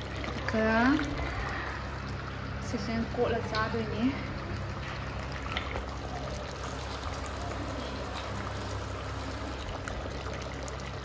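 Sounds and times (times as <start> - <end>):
curry bubbling in pot: 0.0 - 11.0.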